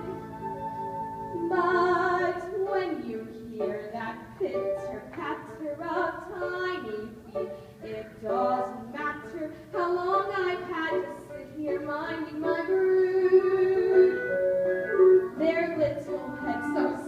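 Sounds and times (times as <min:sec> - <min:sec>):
girls singing: 0:01.3 - 0:14.3, 0:15.3 - 0:17.0.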